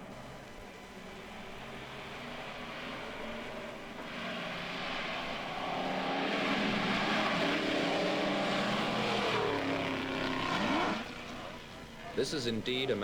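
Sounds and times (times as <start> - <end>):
racing car engine passing: 1.0 - 12.0.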